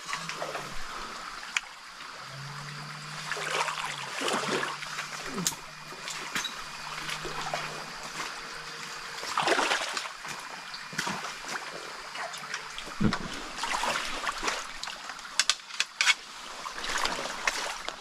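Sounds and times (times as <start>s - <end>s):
stream water trickling: 0.0s - 18.0s
water splashing: 0.0s - 18.0s.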